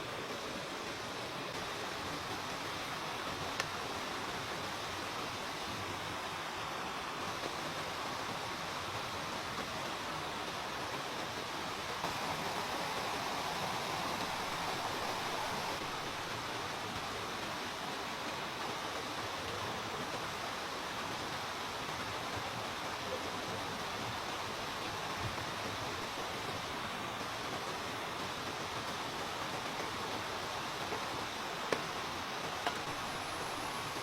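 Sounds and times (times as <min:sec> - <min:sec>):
steady rushing noise: 0:00.0 - 0:34.0.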